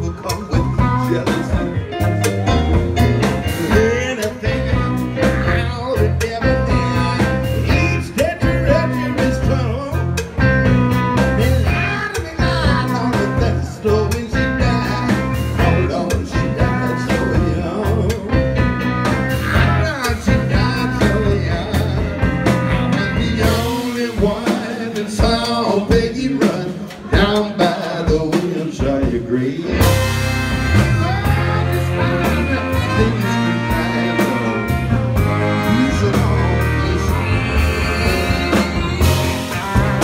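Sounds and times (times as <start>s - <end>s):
electric bass: 0.0s - 26.6s, 27.2s - 40.0s
drums: 0.0s - 40.0s
live blues band playing: 0.0s - 40.0s
piano: 0.0s - 40.0s.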